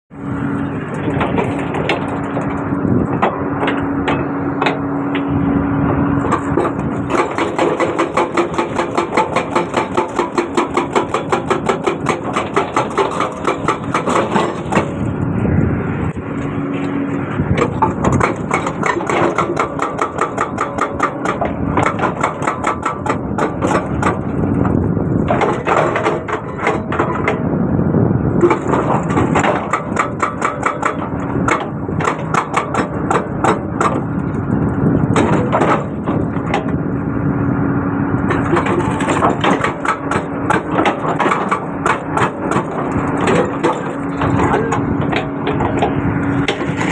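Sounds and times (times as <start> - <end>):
excavator engine running: 0.1 - 46.9
hydraulic breaker hammering: 0.7 - 5.4, 6.1 - 15.2, 16.8 - 27.6, 28.3 - 36.8, 38.2 - 46.9.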